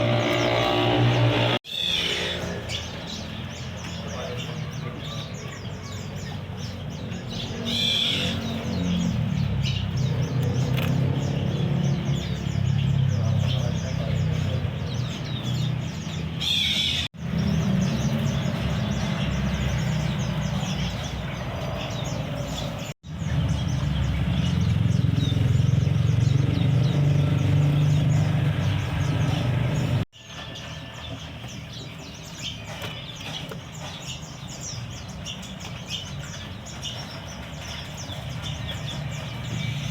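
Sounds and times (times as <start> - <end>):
songbirds chirping rapidly: 0.0 - 39.9.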